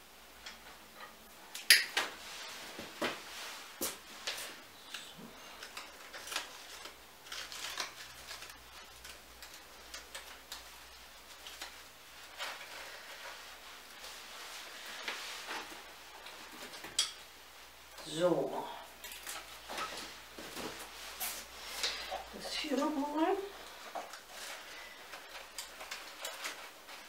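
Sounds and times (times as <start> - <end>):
leafy stems rustling: 0.3 - 27.0.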